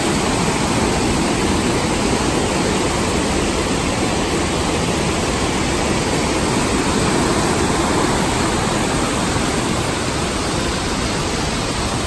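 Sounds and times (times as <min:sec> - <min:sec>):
creek cascading over boulders: 0:00.0 - 0:12.0.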